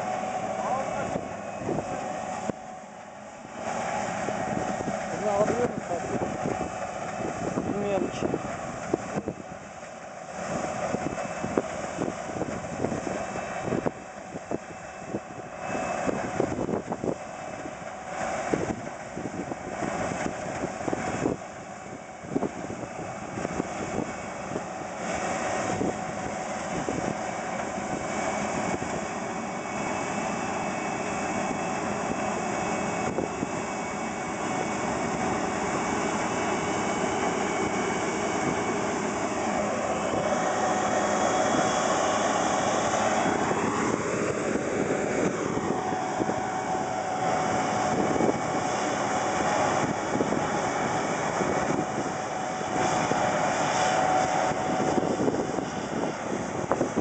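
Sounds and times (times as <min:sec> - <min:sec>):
combine harvester drone: 0:00.0 - 0:57.0
machinery whine: 0:00.0 - 0:57.0.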